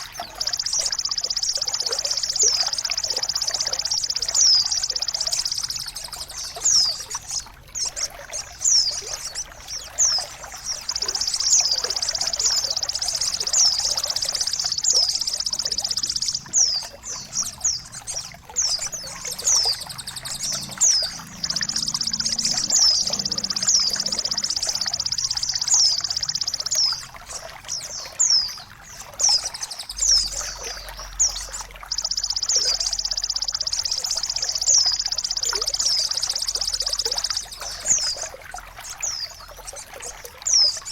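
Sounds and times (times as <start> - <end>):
songbird singing: 0.0 - 40.9
trickling water: 0.0 - 40.9.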